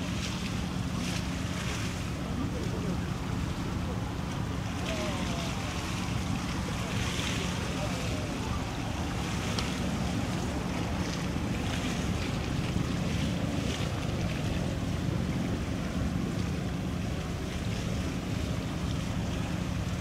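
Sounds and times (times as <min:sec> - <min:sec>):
low engine drone: 0:00.0 - 0:20.0
small waves lapping: 0:00.0 - 0:20.0.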